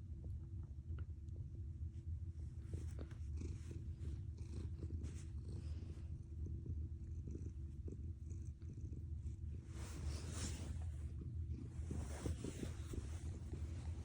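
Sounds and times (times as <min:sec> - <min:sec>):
cat purring: 0:01.2 - 0:14.0.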